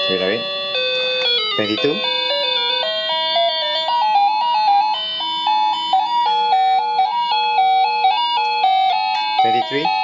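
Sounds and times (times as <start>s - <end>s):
electronic doorbell chime tune: 0.0s - 10.0s.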